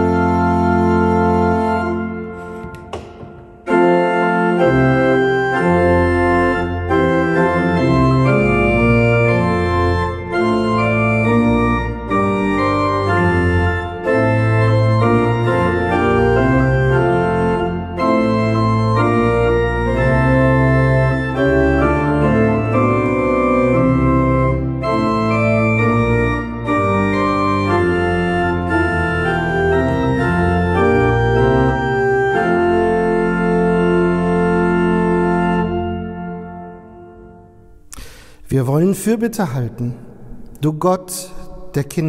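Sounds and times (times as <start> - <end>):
church organ playing a hymn: 0.0 - 42.0.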